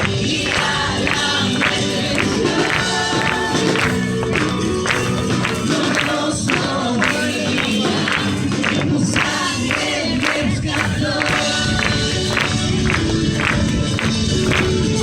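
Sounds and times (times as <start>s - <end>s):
steady percussion beat: 0.0s - 15.0s
voices singing together: 0.0s - 15.0s.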